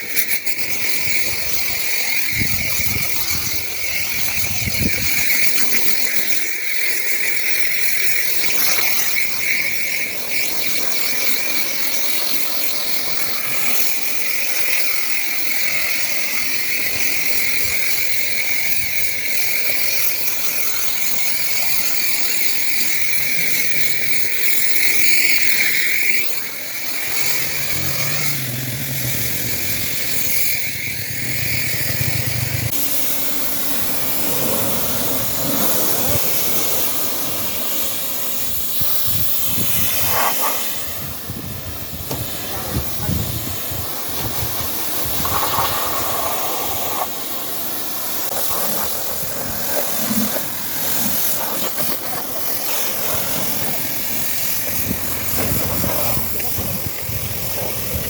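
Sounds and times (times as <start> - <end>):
hissing water spray: 0.0 - 58.0.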